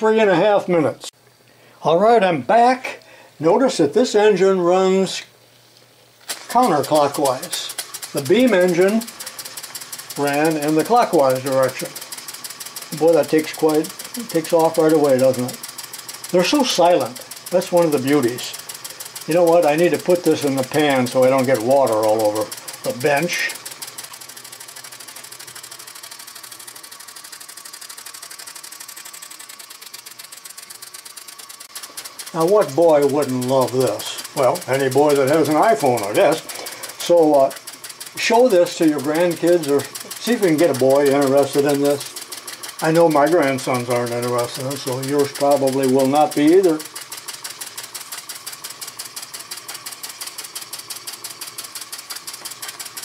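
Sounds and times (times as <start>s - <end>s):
toy steam engine ticking: 6.3s - 53.0s.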